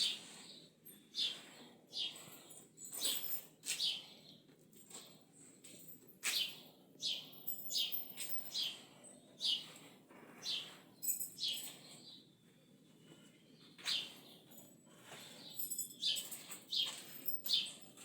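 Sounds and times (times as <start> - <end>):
birds chirping: 0.0 - 4.4, 6.2 - 17.9.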